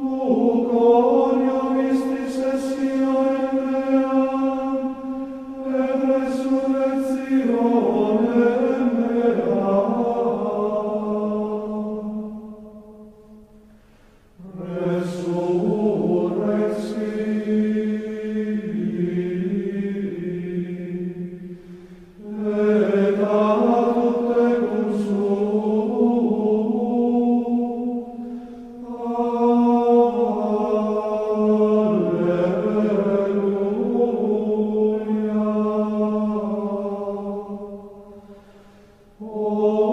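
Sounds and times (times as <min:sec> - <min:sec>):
slow sung chant: 0:00.0 - 0:39.9.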